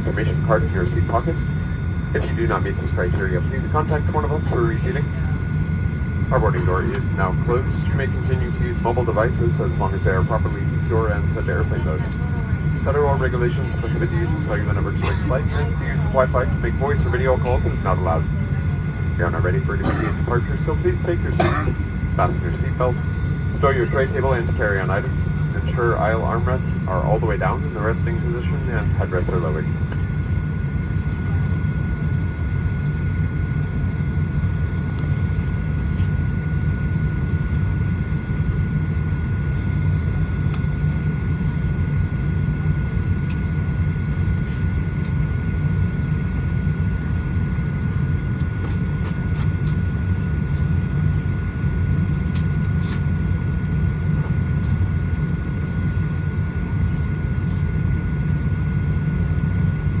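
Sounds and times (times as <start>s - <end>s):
constant high whine: 0.0s - 60.0s.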